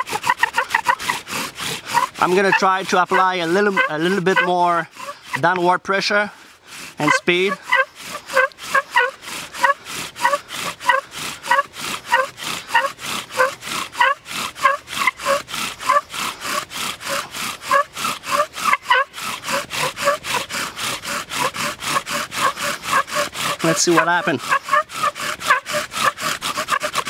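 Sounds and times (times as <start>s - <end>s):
bow drill rasping squeak: 0.0s - 27.0s.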